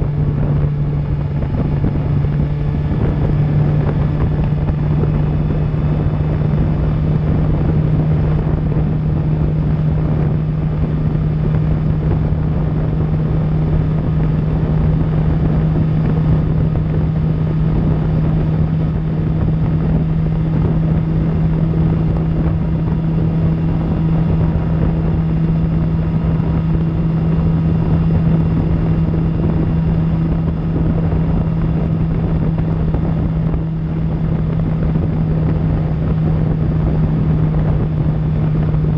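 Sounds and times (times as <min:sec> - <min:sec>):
motorcycle engine cruising: 0:00.0 - 0:38.9
wind on microphone: 0:00.0 - 0:38.9.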